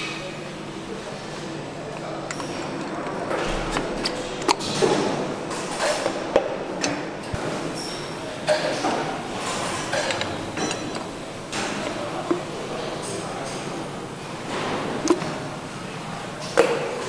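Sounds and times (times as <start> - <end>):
assembly hall hum: 0.0 - 17.0.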